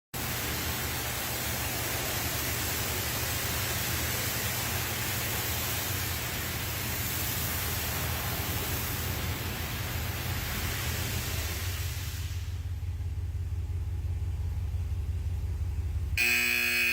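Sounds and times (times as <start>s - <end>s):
car wash water spraying: 0.1s - 16.9s
low machine hum: 0.2s - 16.9s.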